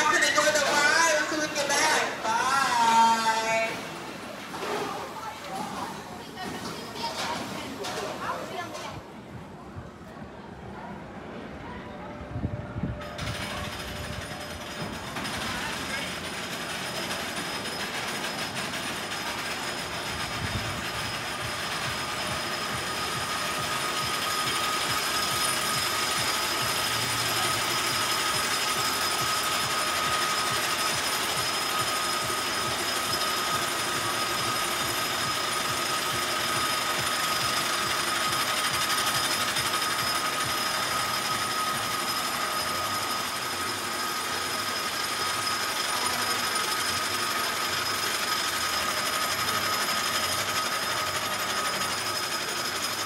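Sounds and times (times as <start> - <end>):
roller coaster chain clattering: 6.3 - 9.0, 13.0 - 53.0.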